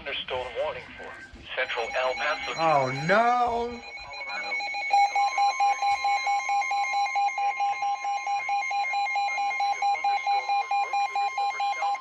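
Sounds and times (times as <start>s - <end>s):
rapid alarm beeping: 1.6s - 12.0s
steady high tone: 1.6s - 12.0s.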